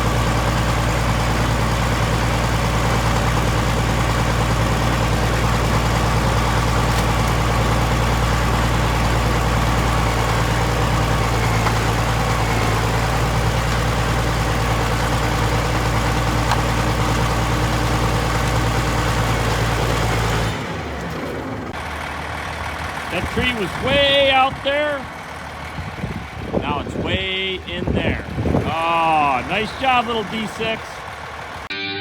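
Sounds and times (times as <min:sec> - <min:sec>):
bulldozer diesel engine droning: 0:00.0 - 0:32.0.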